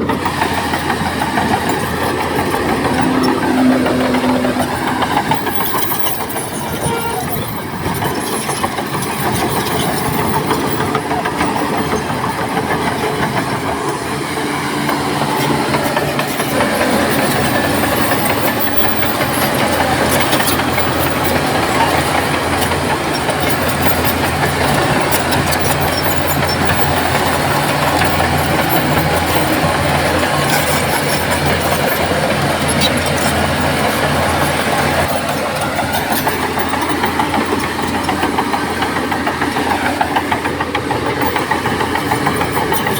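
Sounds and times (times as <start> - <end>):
rattle of small clanks: 0.0 - 14.2, 14.8 - 42.9
bulldozer diesel engine: 0.0 - 42.9.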